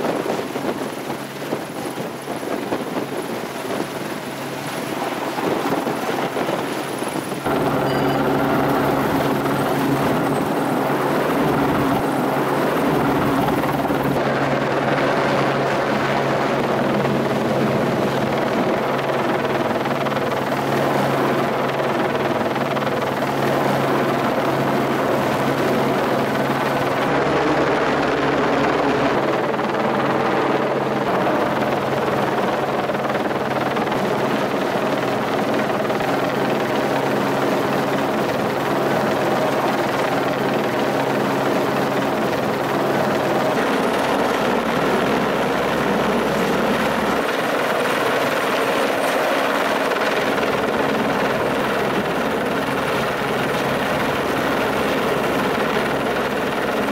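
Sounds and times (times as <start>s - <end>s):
helicopter hovering: 0.0s - 56.9s.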